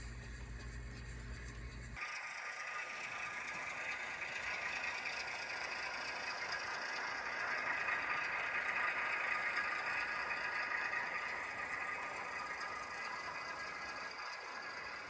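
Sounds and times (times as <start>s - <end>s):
diesel engine sound from small speaker: 0.0s - 15.0s
model train running on track: 0.0s - 15.0s.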